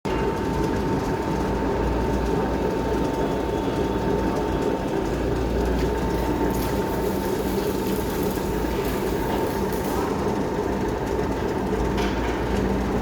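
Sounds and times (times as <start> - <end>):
metal lathe running: 0.3 - 13.0.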